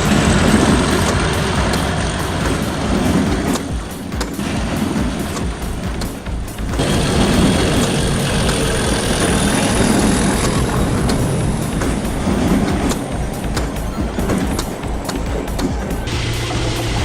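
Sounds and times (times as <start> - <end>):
rail clicks: 0.0 - 17.0
train rumbling on rails: 0.0 - 17.0.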